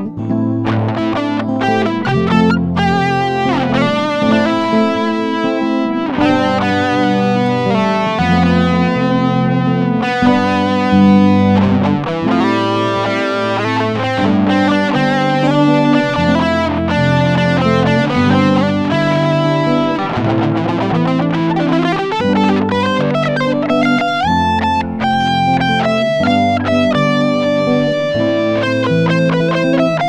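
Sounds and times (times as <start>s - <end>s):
electric guitar melody: 0.0s - 30.0s
low bass notes: 0.0s - 30.0s.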